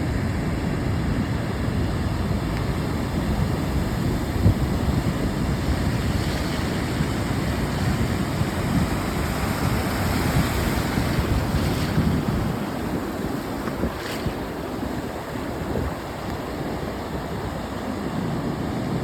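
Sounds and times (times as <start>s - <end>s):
waves washing ashore: 0.0s - 19.0s.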